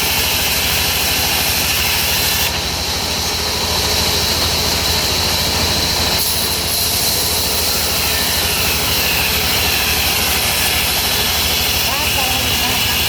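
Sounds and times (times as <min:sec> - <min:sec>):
high machine whine and hiss: 0:00.0 - 0:13.0.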